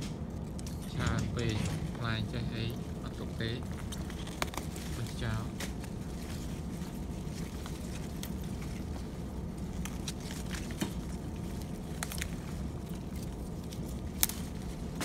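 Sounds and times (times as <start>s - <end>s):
plant leaves rustling: 0.0s - 15.0s
steady low rumble: 0.0s - 15.0s.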